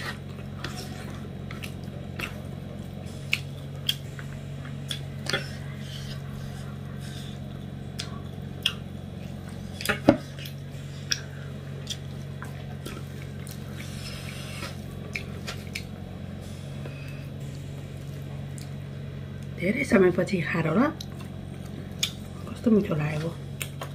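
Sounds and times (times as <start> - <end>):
wet squishing of food mixed by hand: 0.0 - 19.9
steady low hum: 0.0 - 23.9.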